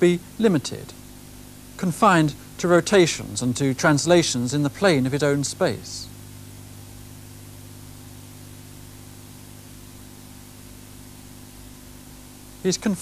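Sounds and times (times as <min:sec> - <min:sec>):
low electrical hum: 0:00.0 - 0:13.0
tape hiss: 0:00.0 - 0:13.0.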